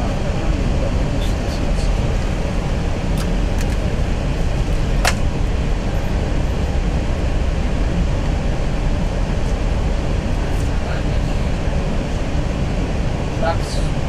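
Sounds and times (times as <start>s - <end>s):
cockpit low rumble: 0.0s - 14.0s.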